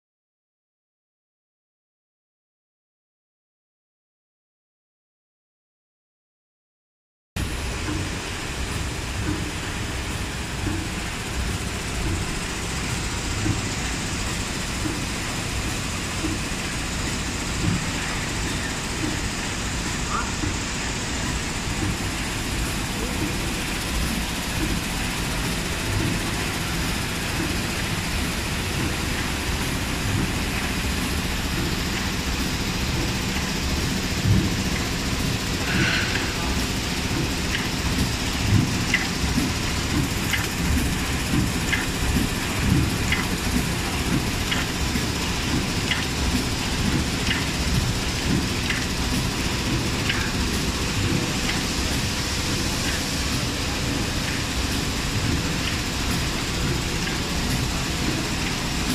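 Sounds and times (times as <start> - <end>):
packing machine mechanical din: 7.4 - 58.9
pneumatic hissing clicks: 9.2 - 58.9.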